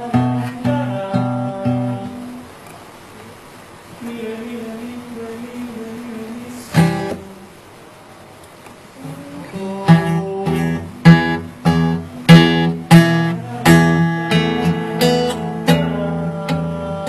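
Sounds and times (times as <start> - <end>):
acoustic guitar strumming chords: 0.0 - 2.7, 4.0 - 7.6, 9.0 - 17.0.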